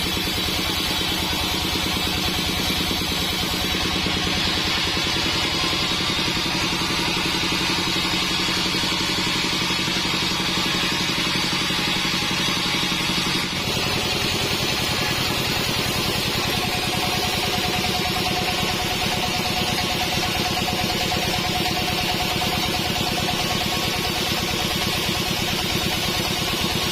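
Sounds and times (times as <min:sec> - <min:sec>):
steady whine: 0:00.0 - 0:24.7
bandsaw running: 0:00.0 - 0:26.9.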